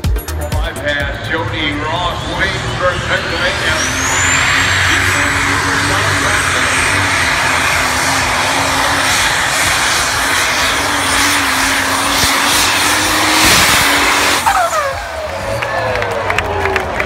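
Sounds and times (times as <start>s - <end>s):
falling whine: 0.0s - 17.0s
tractor engine at full power: 0.0s - 17.0s.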